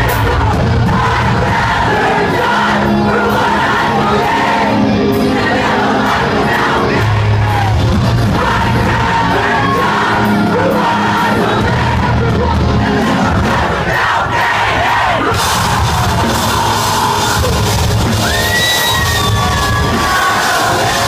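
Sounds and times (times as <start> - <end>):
crowd shouting along: 0.0 - 21.0
metal band playing live: 0.0 - 21.0
singer's vocals: 0.0 - 21.0.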